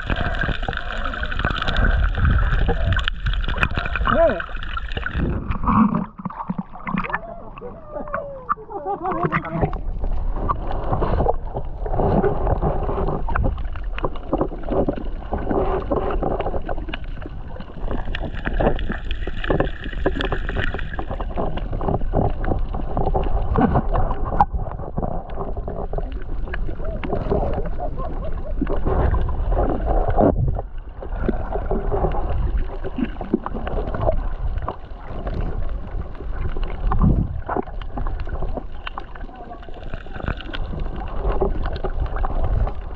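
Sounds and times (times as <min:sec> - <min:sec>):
small crackles: 0:00.0 - 0:42.9
water rushing and bubbling: 0:00.0 - 0:42.9.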